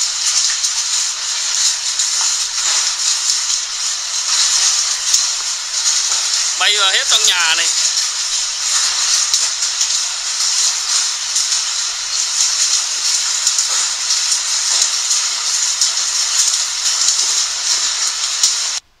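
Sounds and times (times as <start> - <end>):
hail and heavy rain pelting: 0.0 - 18.8.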